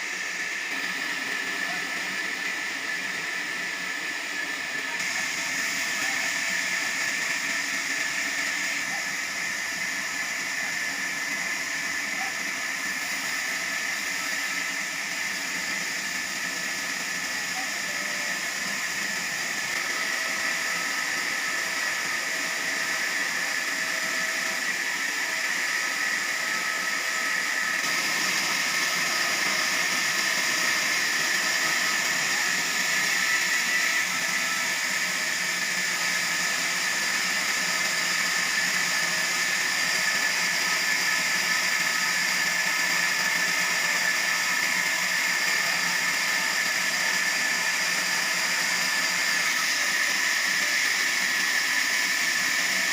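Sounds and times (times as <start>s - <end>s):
sawmill saw cutting log: 0.0s - 52.9s.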